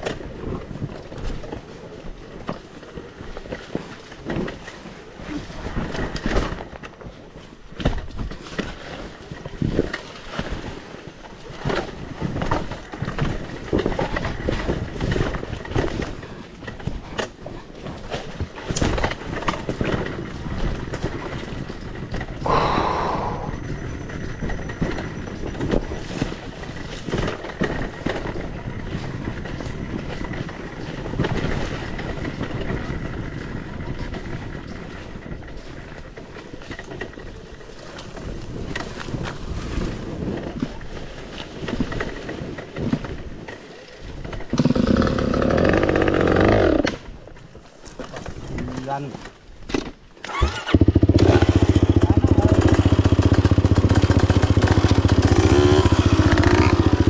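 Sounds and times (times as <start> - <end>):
continuous rumbling: 0.0 - 57.0.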